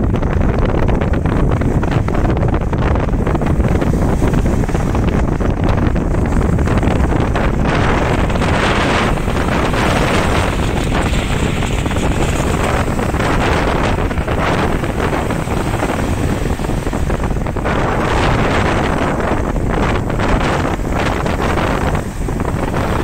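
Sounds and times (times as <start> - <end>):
waves washing up shore: 0.0 - 23.0
wind buffeting microphone: 0.0 - 23.0.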